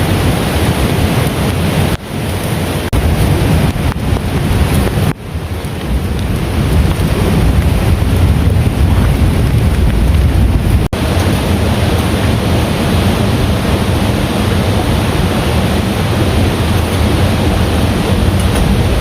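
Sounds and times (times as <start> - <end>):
heavy rain pouring: 0.0 - 19.0
deep low rumble: 2.9 - 19.0.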